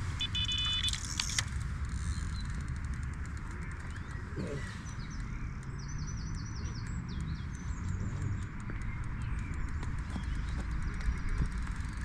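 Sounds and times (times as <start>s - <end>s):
small bird chirping: 0.2s - 1.3s, 2.0s - 12.0s
wind buffeting microphone: 2.2s - 12.0s.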